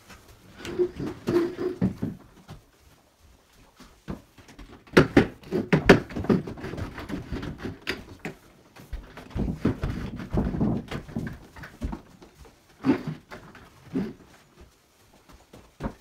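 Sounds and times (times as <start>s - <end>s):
wardrobe scraping across floor: 0.0s - 4.4s, 5.4s - 16.0s.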